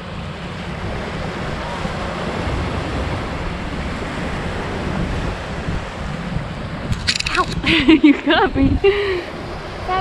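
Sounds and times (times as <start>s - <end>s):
small waves on shore: 0.0s - 10.0s
wind buffeting microphone: 0.0s - 10.0s.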